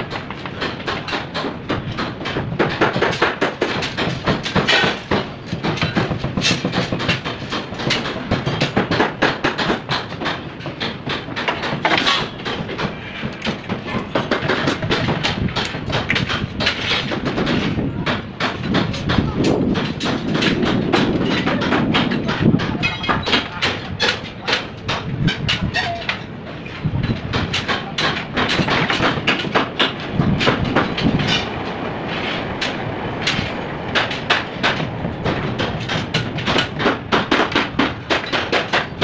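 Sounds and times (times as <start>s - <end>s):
construction knocks and bangs: 0.0s - 39.0s.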